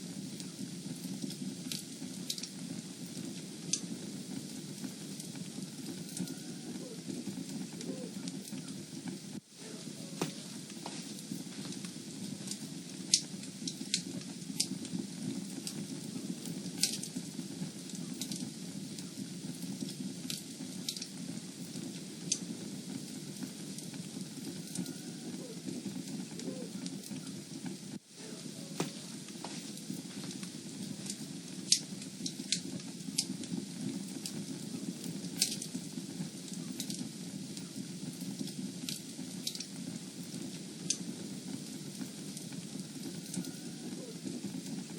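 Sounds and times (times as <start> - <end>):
fire crackling and popping: 0.0 - 44.9
fire rumbling: 0.0 - 44.9.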